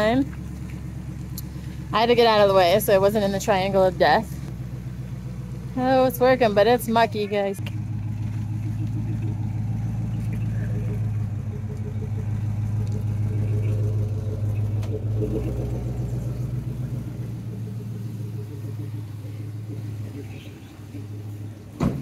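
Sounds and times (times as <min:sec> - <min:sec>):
winch humming under load: 0:00.0 - 0:22.0.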